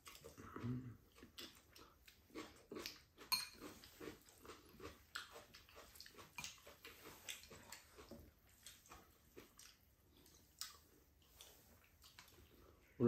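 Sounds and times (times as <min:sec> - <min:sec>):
wet chewing and mouth smacks: 0:00.0 - 0:13.0.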